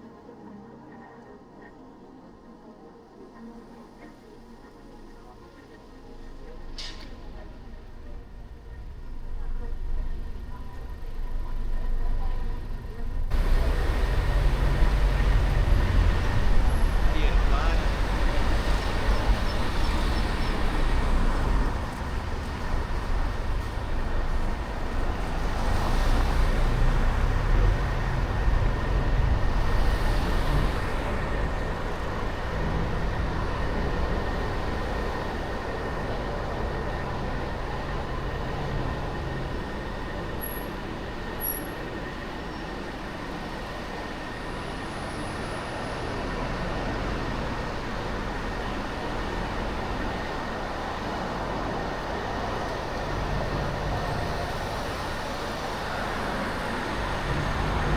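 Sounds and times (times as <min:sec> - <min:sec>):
traffic rumble of engines and tyres: 0:04.1 - 0:57.9.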